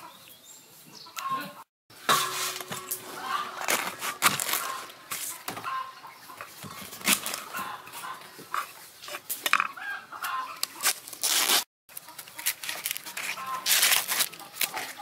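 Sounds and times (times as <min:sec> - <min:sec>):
chickens clucking: 0:00.0 - 0:10.9, 0:12.0 - 0:13.7
corn husks crackling and rustling: 0:02.0 - 0:09.6, 0:10.2 - 0:15.0.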